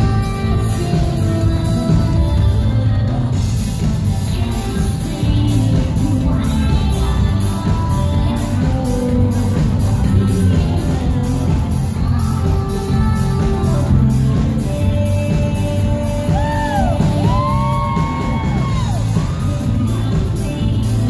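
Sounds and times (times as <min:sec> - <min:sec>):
live indie pop band playing: 0:00.0 - 0:21.0.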